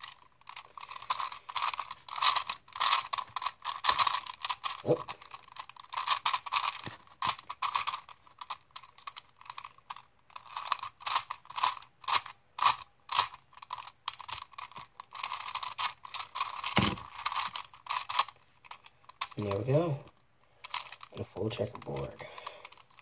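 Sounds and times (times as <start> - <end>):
plastic puzzle gears clicking: 0.0 - 23.0.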